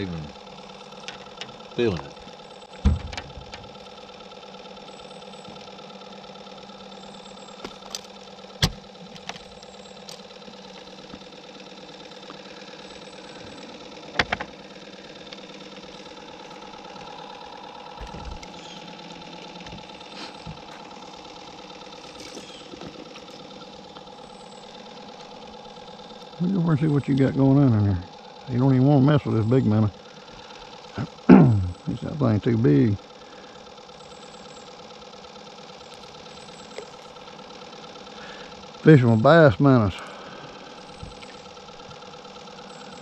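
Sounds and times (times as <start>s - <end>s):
small motor humming: 0.0s - 43.0s.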